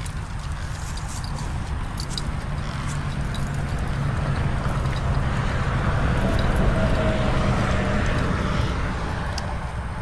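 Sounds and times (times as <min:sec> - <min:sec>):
low traffic rumble: 0:00.0 - 0:10.0
vehicle passing: 0:00.0 - 0:10.0.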